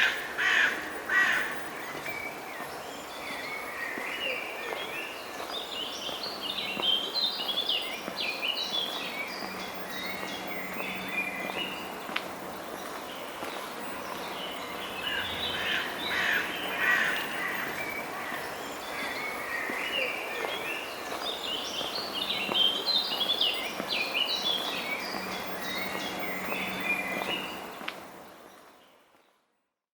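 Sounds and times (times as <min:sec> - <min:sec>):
birds chirping: 0:00.0 - 0:29.0
steady background noise: 0:00.0 - 0:29.2.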